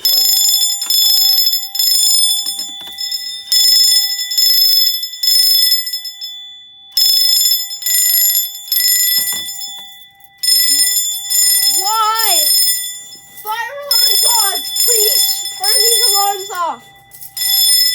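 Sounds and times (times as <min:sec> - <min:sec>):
fire alarm bells ringing: 0:00.0 - 0:17.9.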